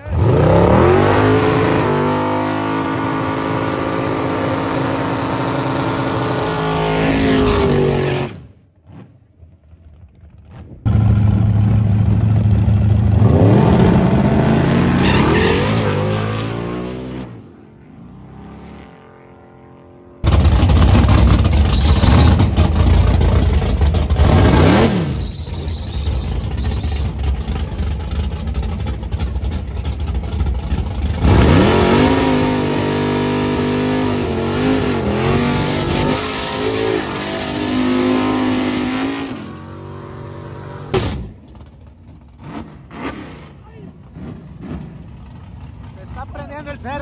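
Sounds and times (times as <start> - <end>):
engine revving: 0.0 - 9.2, 10.4 - 41.4
drag racing car engines at full throttle: 0.0 - 47.0.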